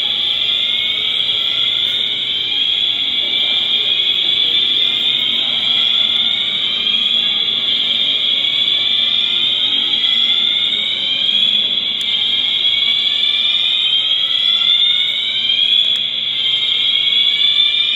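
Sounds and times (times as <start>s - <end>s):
fire alarm shrill tone: 0.0s - 17.9s.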